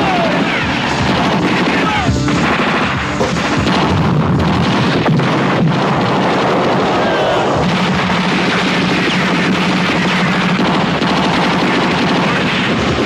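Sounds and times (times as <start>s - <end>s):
background music: 0.0s - 13.0s
explosion: 0.0s - 13.0s
gunfire: 0.0s - 13.0s.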